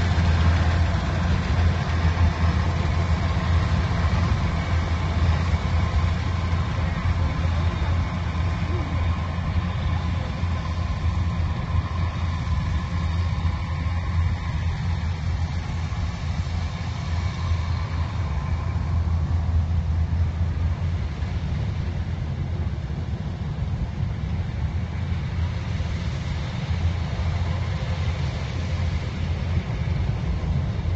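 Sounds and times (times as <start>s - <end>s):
farm machine engine humming: 0.0s - 30.9s.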